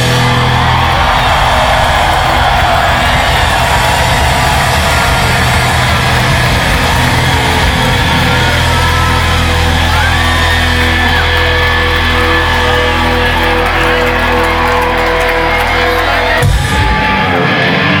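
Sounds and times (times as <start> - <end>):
crowd shouts and whoops: 0.0 - 18.0
rock band sustained chord: 0.0 - 18.0.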